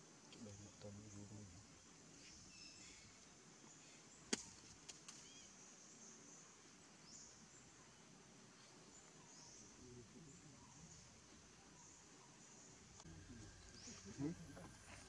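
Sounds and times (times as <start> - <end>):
high insect hum: 0.0 - 15.0.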